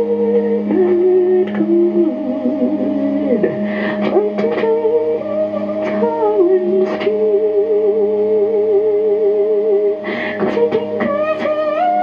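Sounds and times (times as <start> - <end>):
electronic drone tones: 0.0 - 12.0
person singing with vibrato: 0.0 - 12.0.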